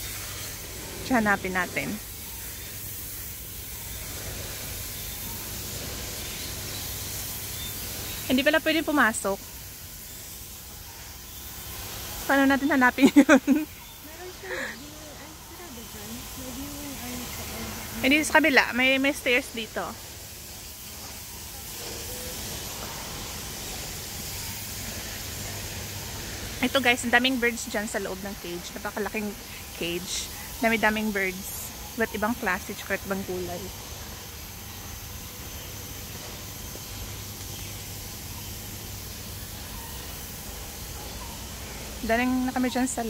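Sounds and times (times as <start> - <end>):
low steady hum: 0.0 - 43.0
steady outdoor hiss: 0.0 - 43.0.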